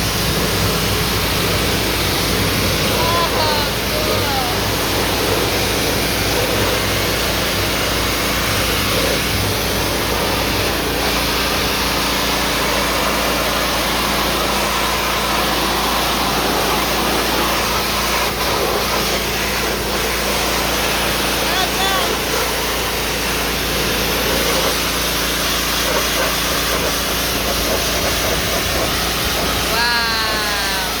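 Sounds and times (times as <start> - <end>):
pressure washer engine running: 0.0 - 31.0
rushing hiss of water spray: 0.0 - 31.0.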